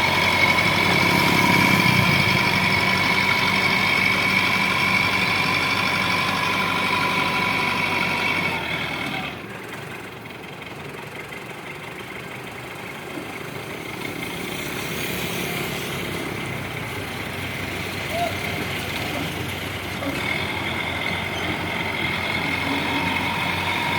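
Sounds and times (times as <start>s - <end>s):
diesel engine idling: 0.0s - 23.9s
diesel engine with high whine: 0.0s - 23.9s.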